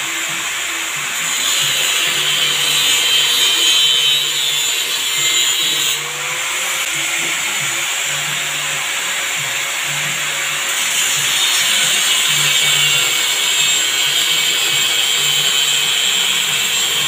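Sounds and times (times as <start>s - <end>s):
grinder motor whine: 0.0s - 17.0s
grinding hiss on steel: 0.0s - 17.0s.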